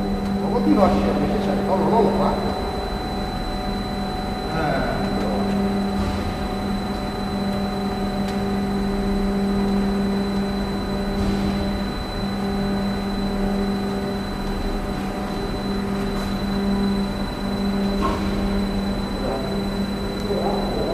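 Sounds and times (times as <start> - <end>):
packing machine hum: 0.0 - 20.9
thin high whine: 0.0 - 20.9.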